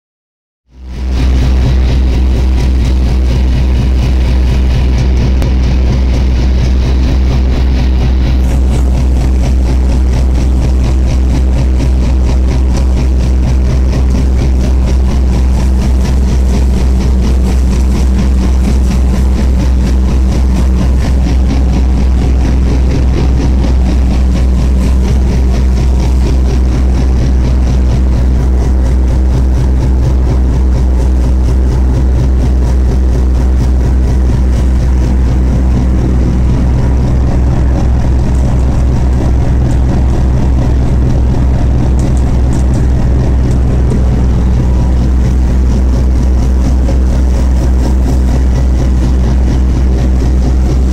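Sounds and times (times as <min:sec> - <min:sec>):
boat diesel engine droning: 0:00.7 - 0:50.9.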